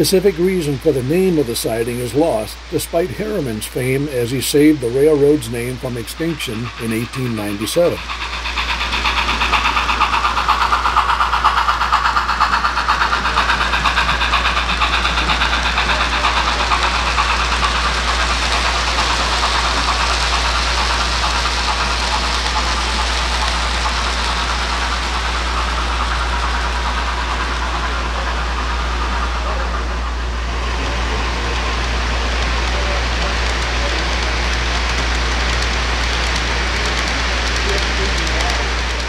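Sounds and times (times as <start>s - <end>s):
model steam locomotive chuffing: 0.0s - 39.0s
steady low hum: 0.0s - 39.0s.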